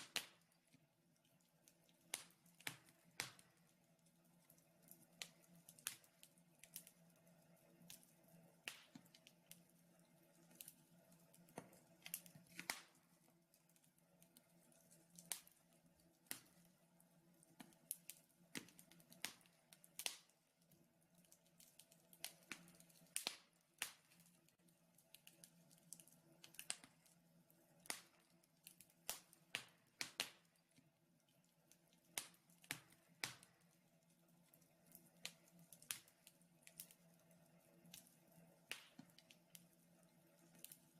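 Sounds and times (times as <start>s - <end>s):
faint steady hum: 0.0s - 40.9s
wood fire crackling and popping: 0.0s - 40.9s.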